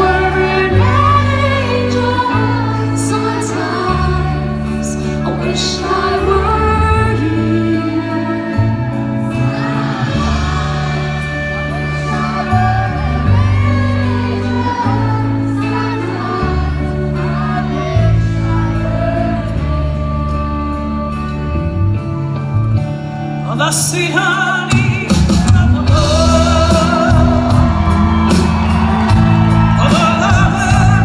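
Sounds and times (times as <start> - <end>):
bass and keyboard chords: 0.0 - 31.0.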